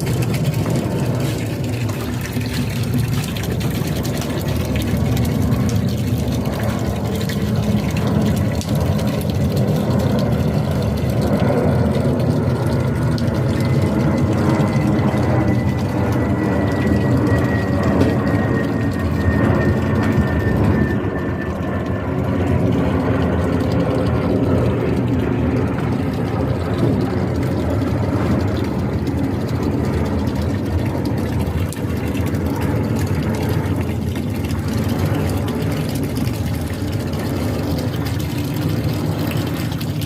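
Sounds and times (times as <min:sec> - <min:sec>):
high engine whine: 0:00.0 - 0:40.0
jet engines rumbling: 0:00.0 - 0:40.0.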